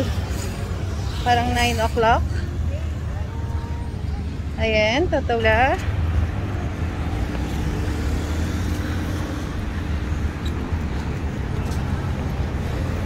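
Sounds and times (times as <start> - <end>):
low rumble of cars: 0.0 - 13.0.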